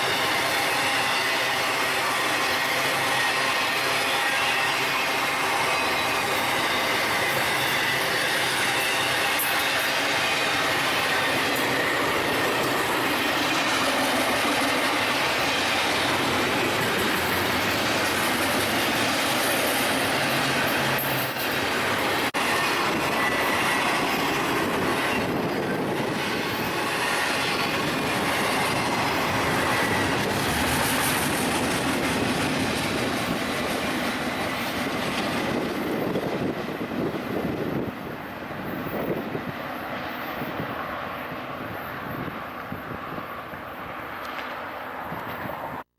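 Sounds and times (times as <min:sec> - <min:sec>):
train wheels on rails: 0:00.0 - 0:45.8.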